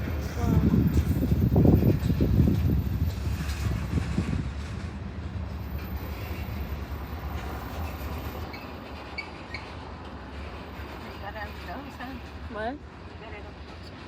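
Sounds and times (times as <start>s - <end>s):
train rumbling past on rails: 0.0s - 14.0s.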